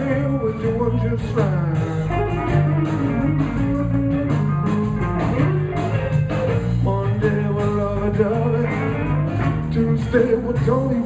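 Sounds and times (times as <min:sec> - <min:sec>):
blues band playing: 0:00.0 - 0:11.0
person singing: 0:00.0 - 0:11.0.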